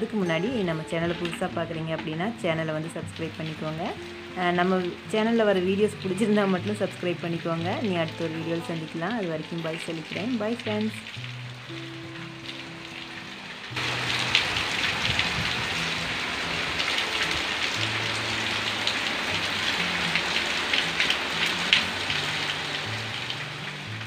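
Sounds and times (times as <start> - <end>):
steady rain on concrete: 0.1 - 24.0
single raindrops ticking: 1.0 - 24.0.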